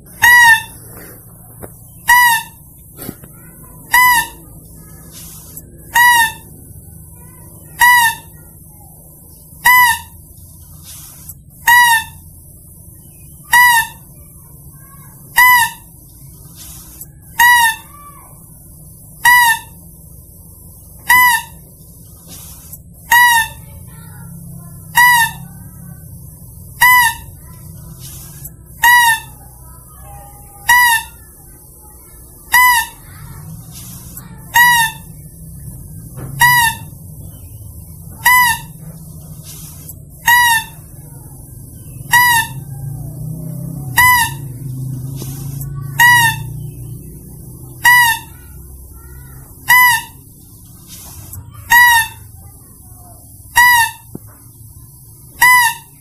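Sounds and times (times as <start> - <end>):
high squeal call: 0.0 - 1.0, 1.8 - 54.1, 54.7 - 56.0
faint low hum: 0.0 - 56.0.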